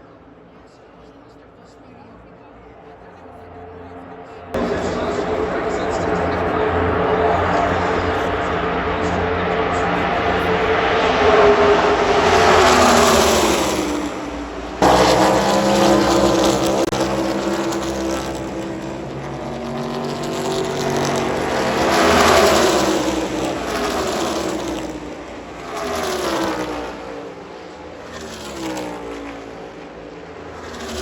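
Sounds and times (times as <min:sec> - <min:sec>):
race cars passing at full throttle: 0:00.1 - 0:31.0.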